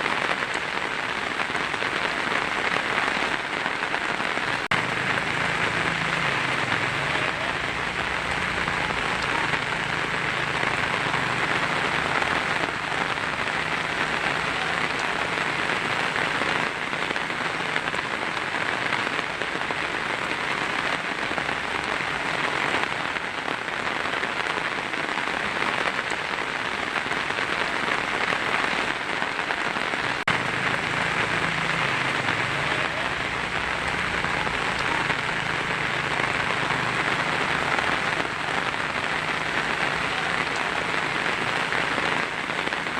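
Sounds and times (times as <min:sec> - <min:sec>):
heavy rain on a tin roof: 0:00.0 - 0:42.9.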